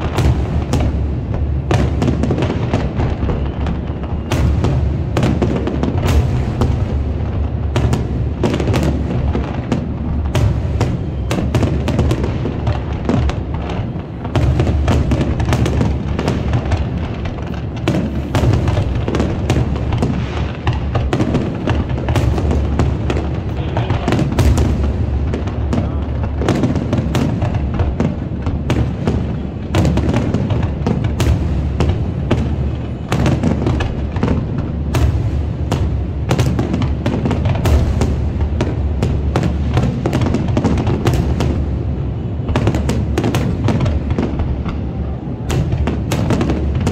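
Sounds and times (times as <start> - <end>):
fireworks booming and crackling: 0.0 - 46.9.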